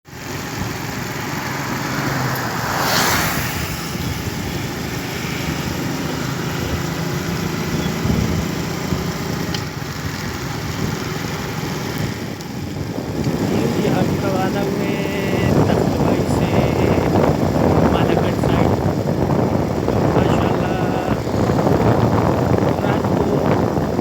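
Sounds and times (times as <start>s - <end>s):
road traffic noise: 0.1s - 24.0s
vehicle passing close by: 0.4s - 23.6s.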